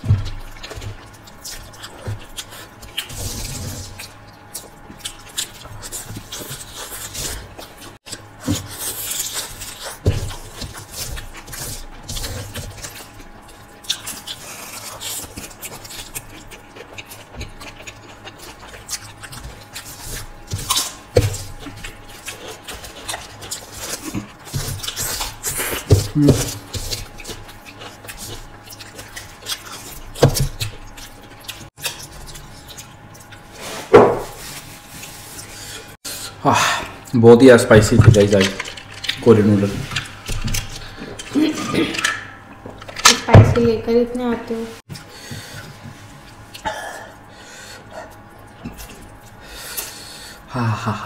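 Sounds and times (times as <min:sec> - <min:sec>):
wet chewing and slurping: 0:00.0 - 0:37.2, 0:38.0 - 0:43.0, 0:44.8 - 0:50.5.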